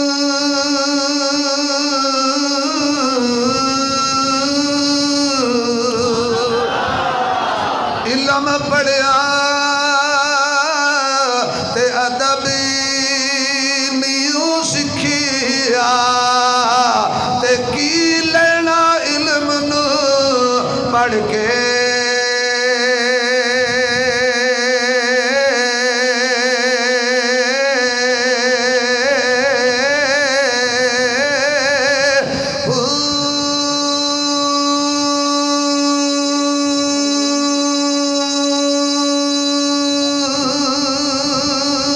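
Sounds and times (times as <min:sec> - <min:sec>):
man singing melodic chant: 0:00.0 - 0:07.2, 0:07.9 - 0:41.9.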